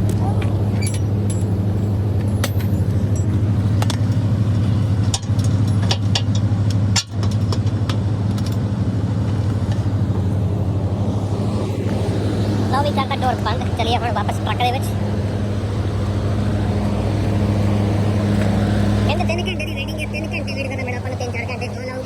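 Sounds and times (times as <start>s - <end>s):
refrigeration unit humming: 0.0s - 22.0s.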